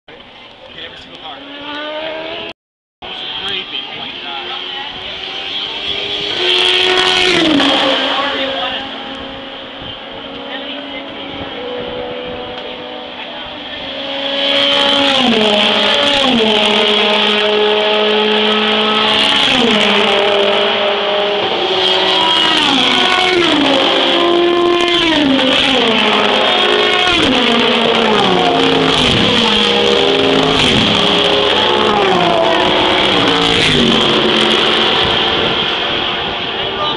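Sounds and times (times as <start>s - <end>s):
race cars passing at speed: 0.1s - 36.9s.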